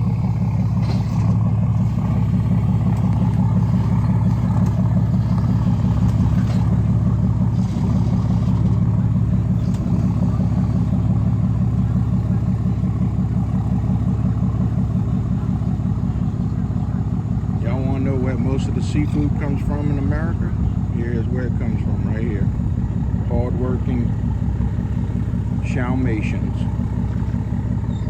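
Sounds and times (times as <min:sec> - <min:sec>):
engine droning steadily: 0:00.0 - 0:28.0.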